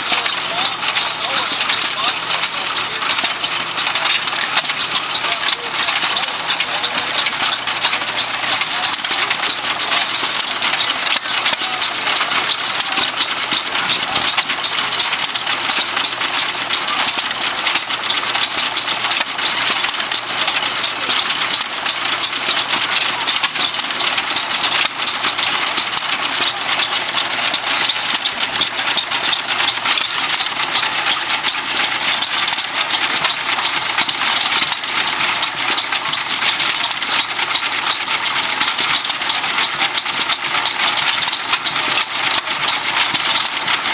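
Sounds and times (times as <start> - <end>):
old engines running: 0.0 - 43.9
small engine clicking and popping: 0.0 - 43.9.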